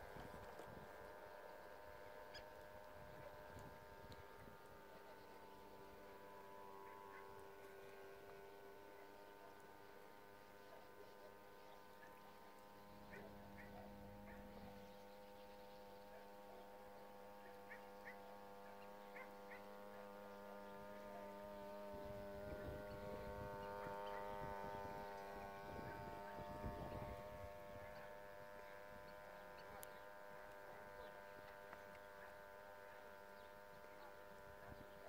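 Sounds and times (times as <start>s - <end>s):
model boat motor humming: 0.0s - 35.0s.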